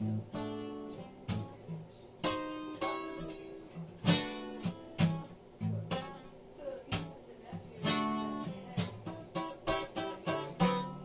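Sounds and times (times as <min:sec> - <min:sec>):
acoustic guitar strumming and picking: 0:00.0 - 0:11.0.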